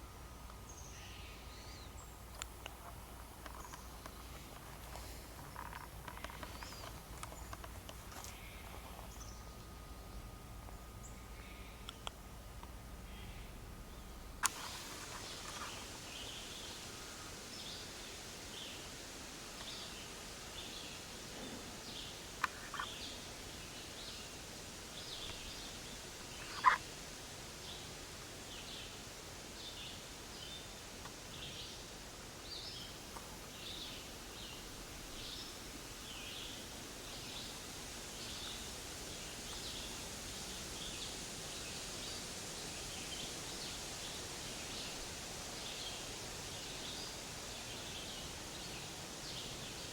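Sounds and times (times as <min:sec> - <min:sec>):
steady hiss: 0:00.0 - 0:49.9.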